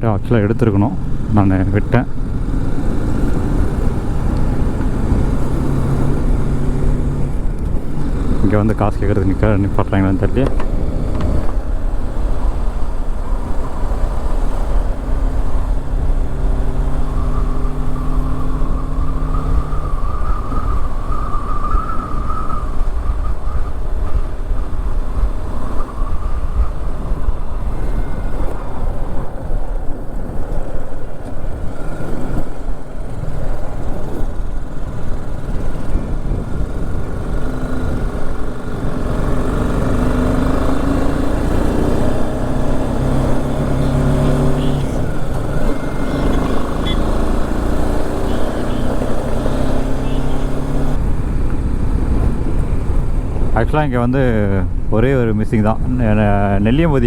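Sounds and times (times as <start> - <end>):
motorcycle engine running: 0.0 - 53.6
wind rumble on microphone: 0.0 - 57.0.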